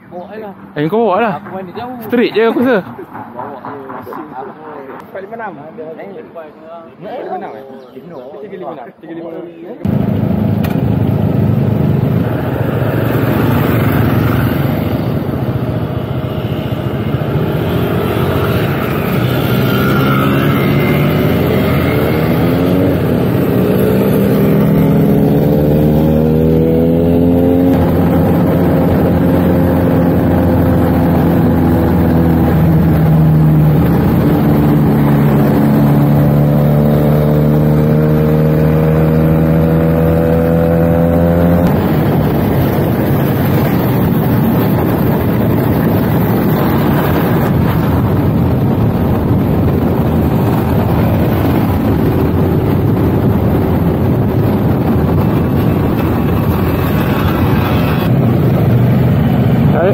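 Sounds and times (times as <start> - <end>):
motorcycle engine accelerating: 9.9 - 59.9
wind rushing over microphone: 9.9 - 59.9.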